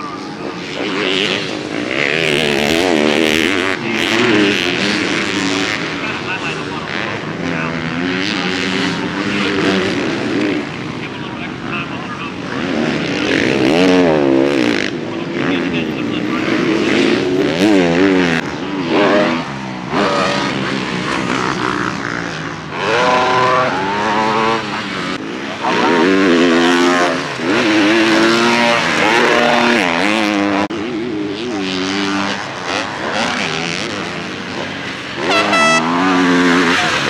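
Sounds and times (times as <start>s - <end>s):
motocross engines revving: 0.0s - 37.0s
nearby motorbike revving high: 0.0s - 37.0s.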